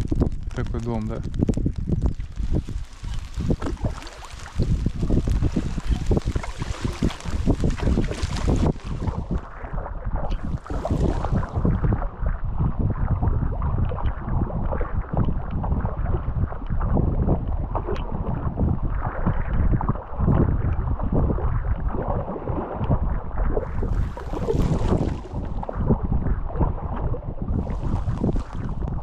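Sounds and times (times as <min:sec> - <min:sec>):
water around rowing boat: 0:00.0 - 0:29.0
wind buffeting microphone: 0:00.0 - 0:29.0.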